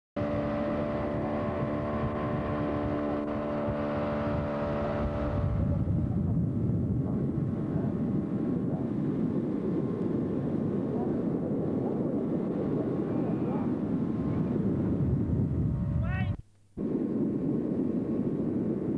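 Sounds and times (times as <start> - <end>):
boat engine droning: 0.2 - 15.9
water noise: 0.2 - 18.9
wind buffeting microphone: 0.2 - 18.9.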